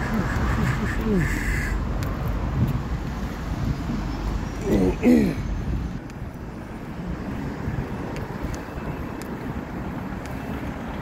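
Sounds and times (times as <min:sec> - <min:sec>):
road traffic passing: 0:00.0 - 0:11.0
wind buffeting microphone: 0:00.0 - 0:11.0.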